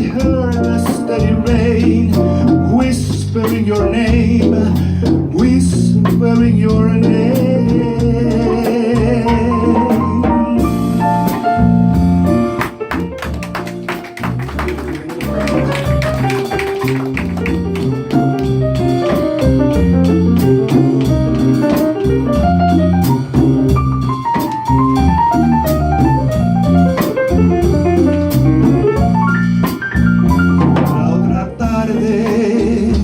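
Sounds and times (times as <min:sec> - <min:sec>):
bass line: 0:00.0 - 0:33.0
jazz band melody: 0:00.0 - 0:33.0.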